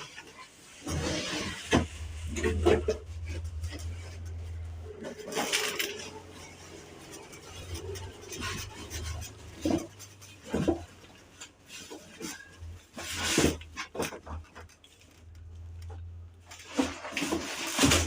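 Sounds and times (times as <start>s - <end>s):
objects knocking and clattering: 0.0s - 18.0s.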